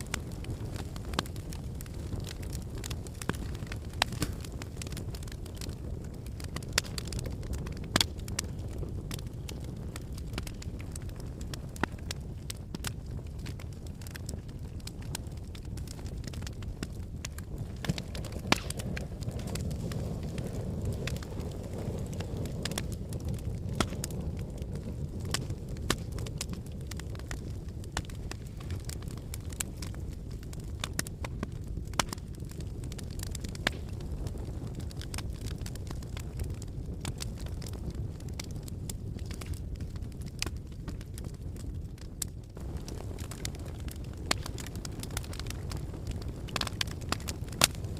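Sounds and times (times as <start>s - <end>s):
fireplace fire crackling: 0.0s - 47.9s
sharp fire pops: 0.0s - 47.9s.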